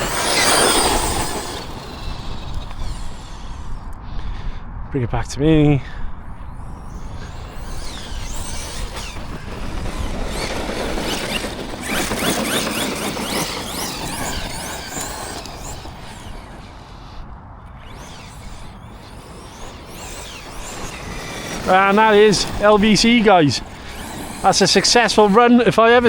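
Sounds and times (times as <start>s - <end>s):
electric motor whining: 0.0s - 4.4s, 5.9s - 26.0s.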